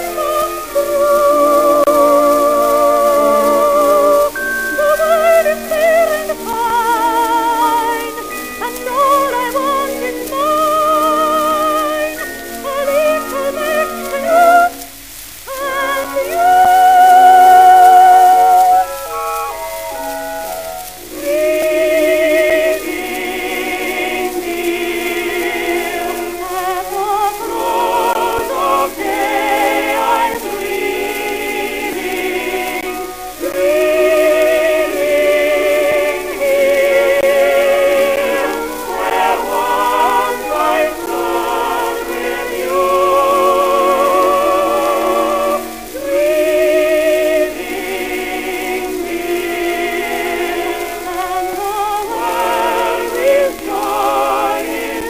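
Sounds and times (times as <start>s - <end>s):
instrumental accompaniment: 0.0s - 55.0s
singing with wide vibrato: 0.0s - 55.0s.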